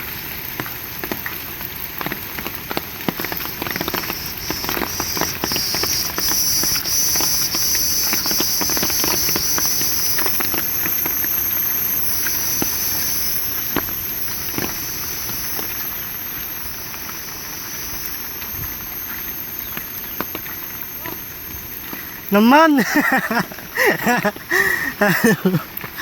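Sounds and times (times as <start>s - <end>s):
rain drops pattering: 0.0s - 26.0s
high-pitched insect chorus: 3.1s - 25.6s.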